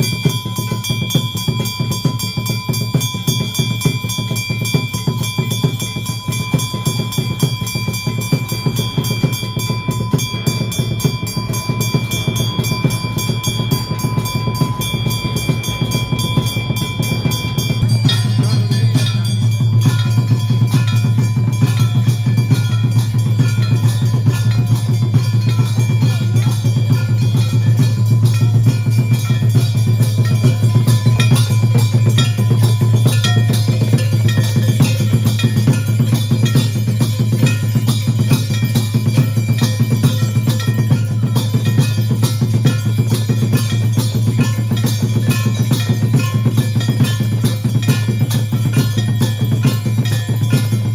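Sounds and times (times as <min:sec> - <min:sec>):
fast dense drumming: 0:00.0 - 0:50.9
ringing bells: 0:00.0 - 0:50.9.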